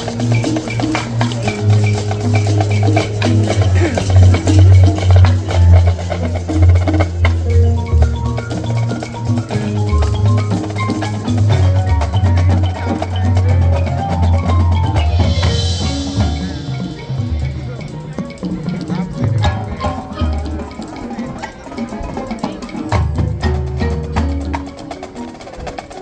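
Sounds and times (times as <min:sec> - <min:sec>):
mallet percussion: 0:00.0 - 0:26.0
marching band playing: 0:00.0 - 0:26.0.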